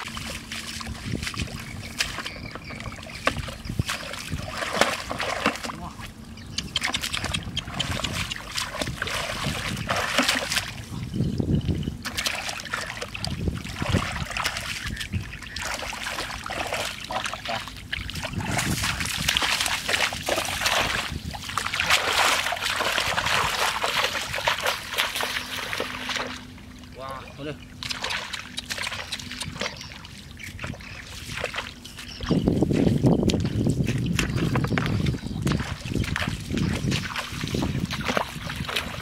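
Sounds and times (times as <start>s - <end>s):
muddy water splashing: 0.0s - 39.0s.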